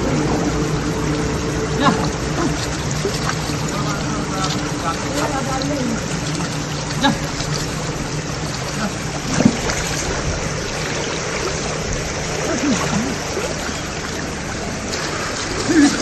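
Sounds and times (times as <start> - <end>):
river water running: 0.0 - 16.0.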